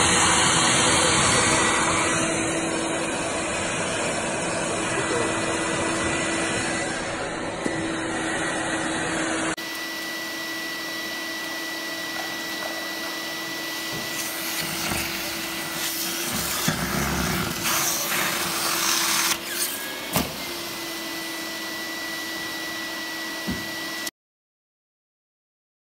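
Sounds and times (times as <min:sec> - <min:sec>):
vacuum machine whine: 0:00.0 - 0:24.1.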